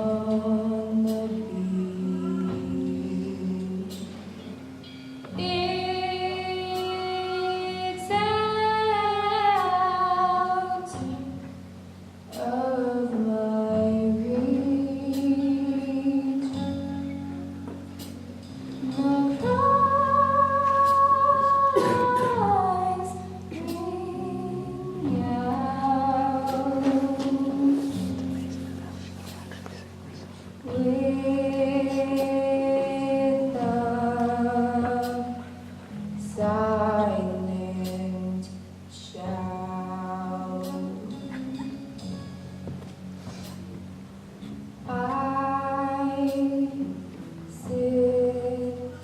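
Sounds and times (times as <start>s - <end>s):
person singing slow song: 0.0s - 42.6s, 44.8s - 49.0s.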